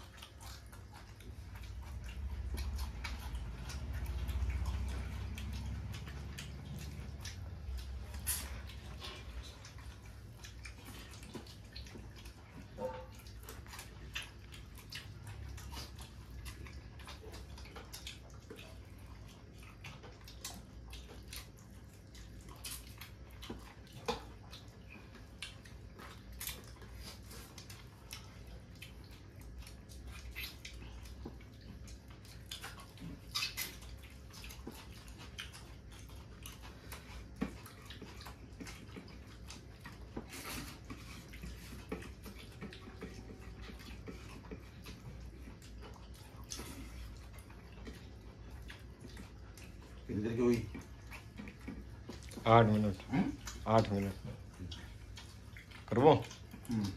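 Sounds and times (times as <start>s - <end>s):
chewing smacks: 0.0s - 56.9s
low steady hum: 0.0s - 56.9s.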